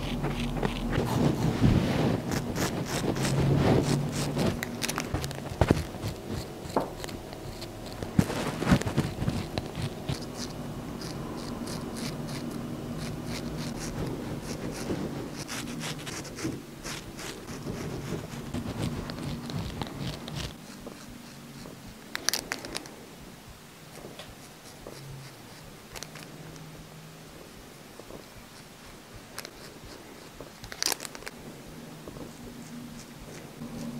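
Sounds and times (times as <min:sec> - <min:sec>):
razor scraping stubble: 0:00.0 - 0:22.9, 0:23.9 - 0:26.6, 0:28.0 - 0:31.3, 0:32.1 - 0:33.9.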